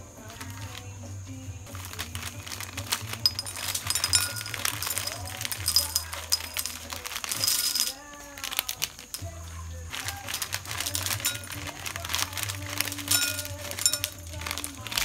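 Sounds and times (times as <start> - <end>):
cereal poured into a ceramic bowl: 1.7 - 9.3, 10.0 - 15.0.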